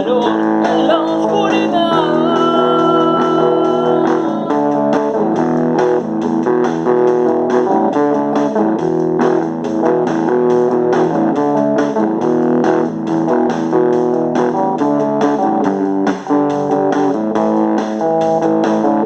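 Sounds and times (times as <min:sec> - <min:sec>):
instrumental rock music: 0:00.0 - 0:19.0.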